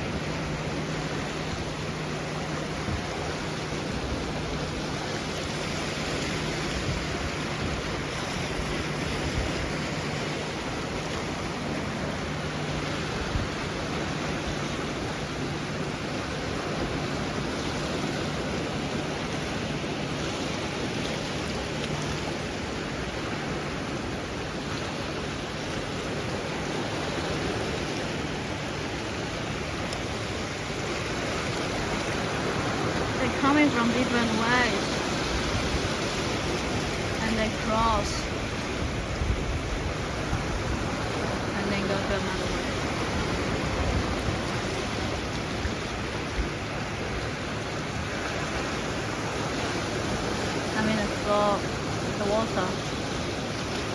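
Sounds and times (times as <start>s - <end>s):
surf washing onto beach: 0.0s - 53.9s.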